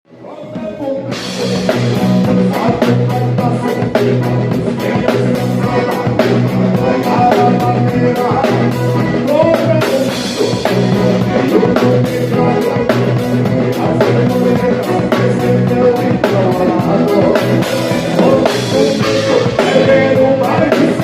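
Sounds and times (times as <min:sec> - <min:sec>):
accordion chords and melody: 0:00.1 - 0:21.0
bass: 0:00.1 - 0:21.0
drum kit beat: 0:00.1 - 0:21.0
guitar: 0:00.1 - 0:21.0.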